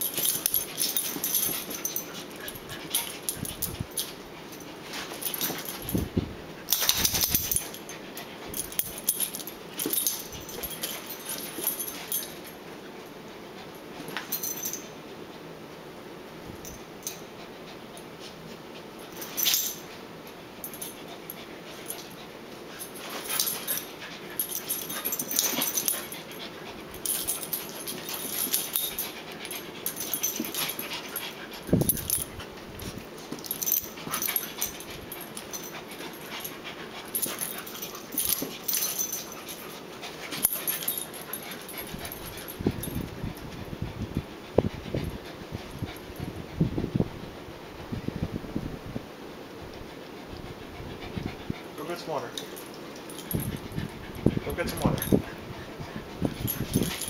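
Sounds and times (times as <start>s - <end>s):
small dogs play-fighting noises: 0.0s - 48.2s, 49.0s - 57.0s.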